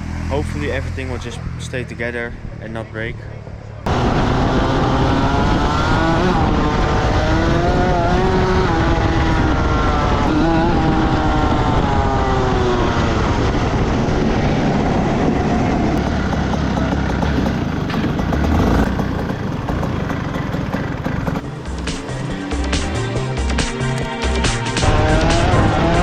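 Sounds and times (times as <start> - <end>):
kart engine running: 3.4 - 26.0.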